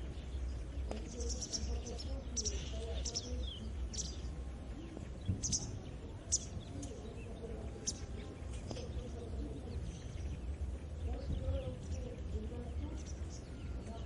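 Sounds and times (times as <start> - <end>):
low rural background rumble: 0.0 - 14.0
small birds chirping: 0.0 - 14.0.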